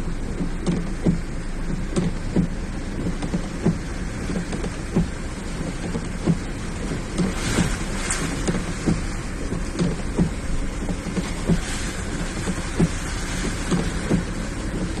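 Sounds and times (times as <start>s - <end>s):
engine and road rumble: 0.0s - 15.0s
rain hissing on car: 0.0s - 15.0s.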